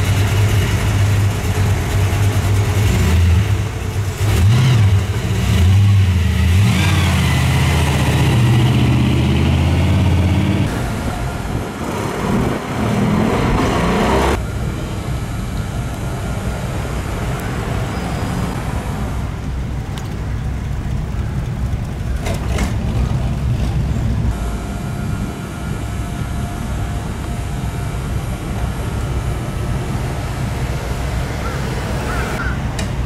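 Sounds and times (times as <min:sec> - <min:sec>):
car engines running at low speed: 0:00.0 - 0:33.0.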